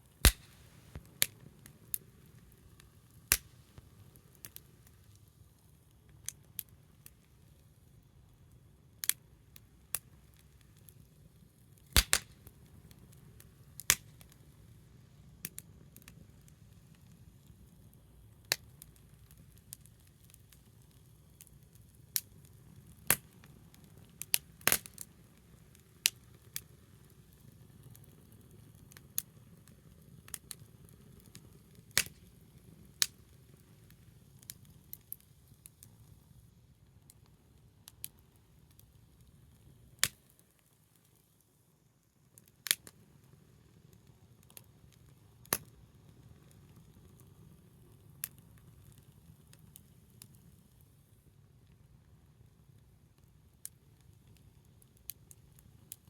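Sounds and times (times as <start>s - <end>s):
wood fire crackling and popping: 0.0s - 41.5s, 42.2s - 56.0s.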